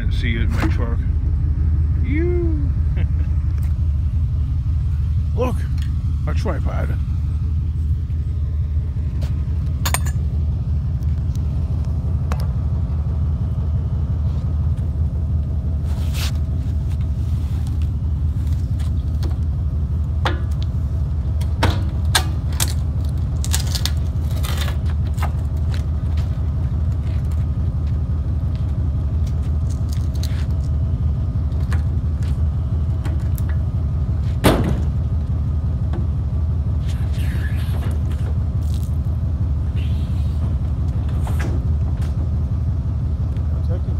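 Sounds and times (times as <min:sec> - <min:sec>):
truck rumble from inside cab: 0:00.0 - 0:43.9.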